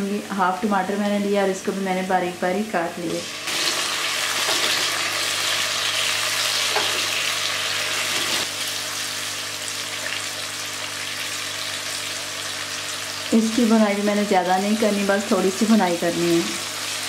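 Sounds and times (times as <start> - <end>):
onion and tomato sizzling in oil: 0.1 - 17.0.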